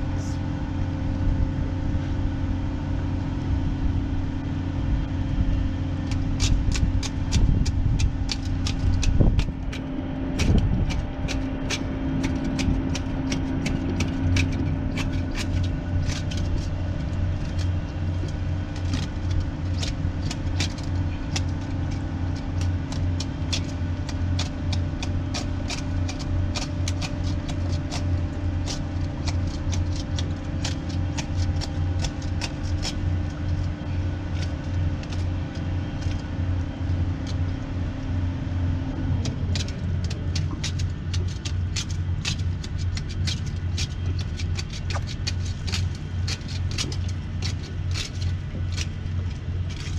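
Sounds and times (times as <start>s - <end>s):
engine droning: 0.0s - 49.9s.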